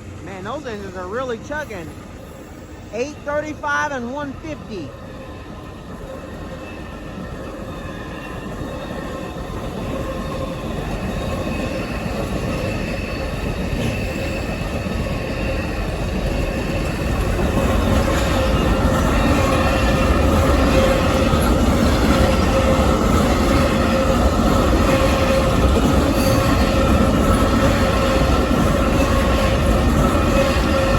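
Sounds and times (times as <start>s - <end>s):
diesel locomotives chugging: 0.0s - 30.9s.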